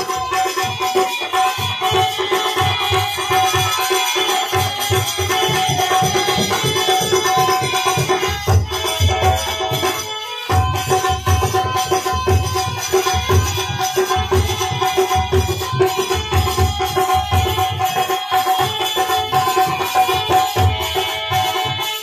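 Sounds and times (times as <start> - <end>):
hand drum beat: 0.0 - 21.8.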